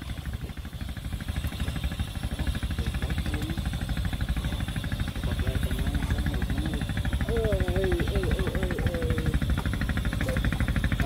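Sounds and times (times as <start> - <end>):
small engine knocking: 0.0 - 11.0.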